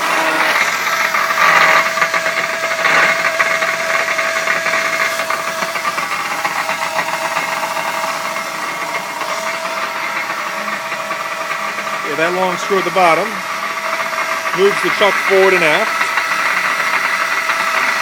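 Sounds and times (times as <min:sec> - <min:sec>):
lathe humming and rattling: 0:00.0 - 0:18.0.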